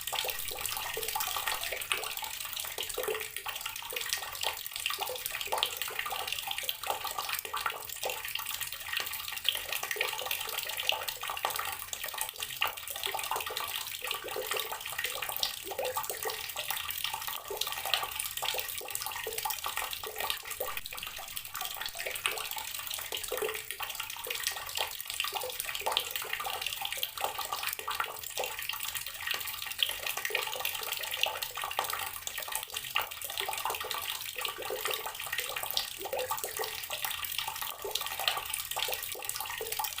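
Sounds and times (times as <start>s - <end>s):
tap water pouring into water: 0.0s - 40.0s.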